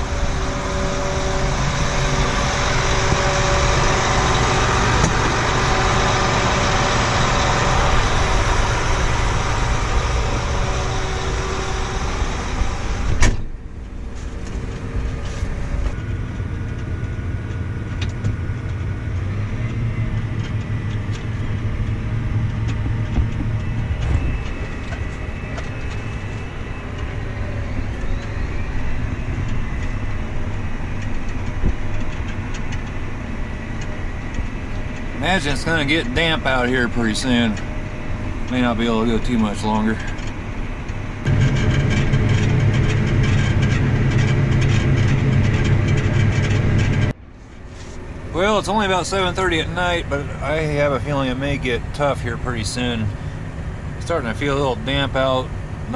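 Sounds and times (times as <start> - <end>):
farm machinery engine running: 0.0 - 55.9
low engine hum: 0.0 - 55.9.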